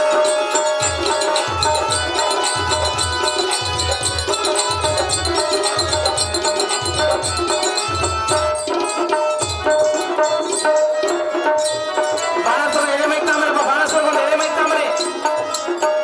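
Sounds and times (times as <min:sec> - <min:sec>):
steady held tones: 0:00.0 - 0:16.0.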